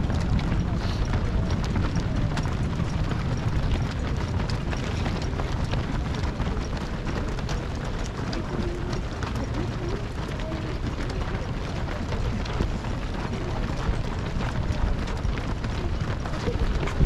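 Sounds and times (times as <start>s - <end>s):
many runners' footsteps on road: 0.0s - 17.0s
steady low rumble: 0.0s - 17.0s.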